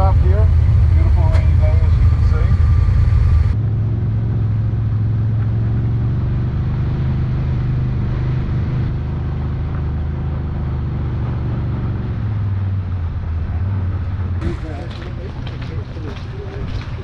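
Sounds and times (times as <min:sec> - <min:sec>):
utv engine running steadily: 0:00.0 - 0:17.0.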